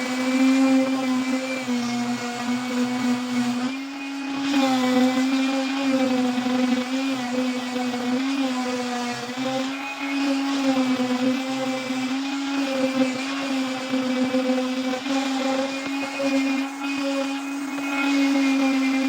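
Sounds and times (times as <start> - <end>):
electric grinder grinding metal: 0.0 - 19.0.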